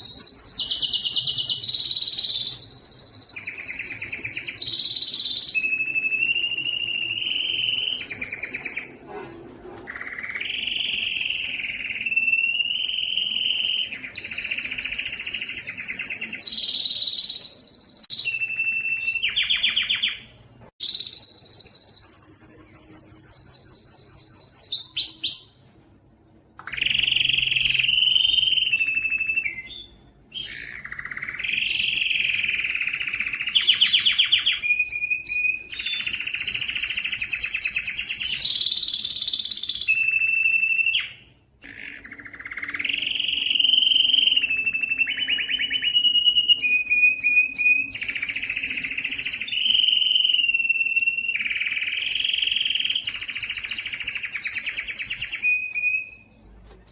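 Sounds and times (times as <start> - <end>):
canary singing: 0.0 - 25.8, 26.6 - 56.9.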